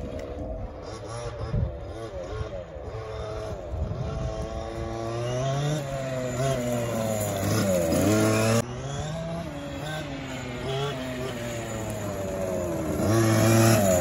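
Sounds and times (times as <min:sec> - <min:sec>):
model car engine revving: 0:00.3 - 0:14.0.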